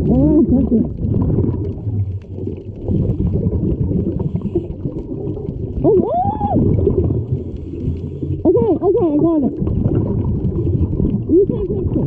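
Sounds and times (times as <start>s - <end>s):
underwater rumble and bubbling: 0.0s - 12.0s.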